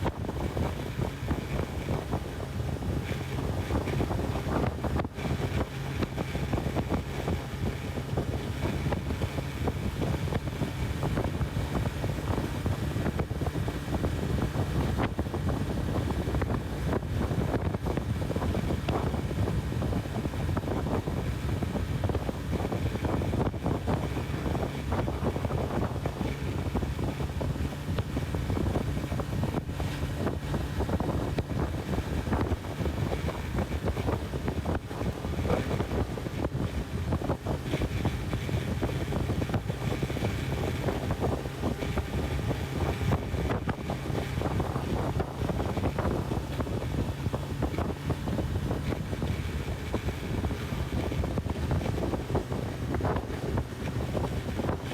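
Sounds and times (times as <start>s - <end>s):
motorcycle engine cruising: 0.0s - 54.9s
wind rushing over microphone: 0.0s - 54.9s.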